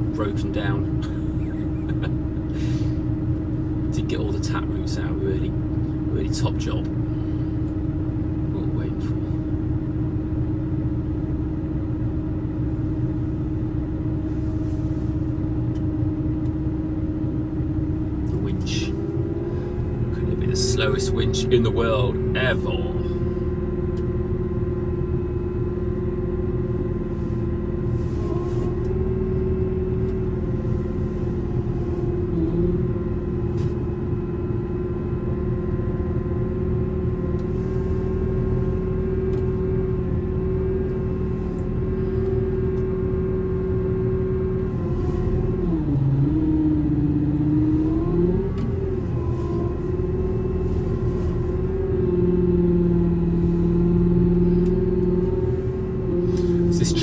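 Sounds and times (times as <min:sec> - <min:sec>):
diesel engine driving a winch: 0:00.0 - 0:57.0.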